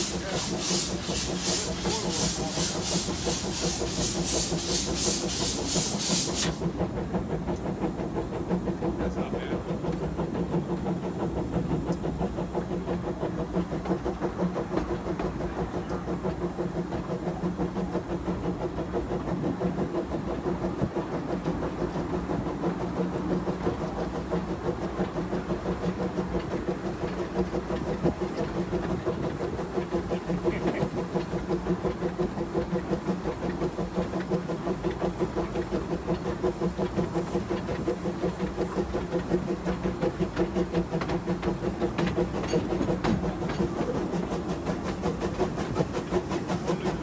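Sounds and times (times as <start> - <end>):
steam locomotive chuffing: 0.0 - 47.0
train rumbling on rails: 0.0 - 47.0.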